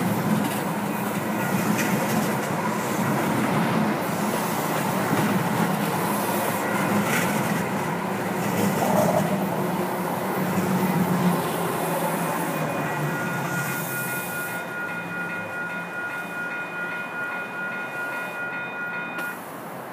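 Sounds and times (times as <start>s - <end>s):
light-rail train pulling away: 0.0s - 19.9s.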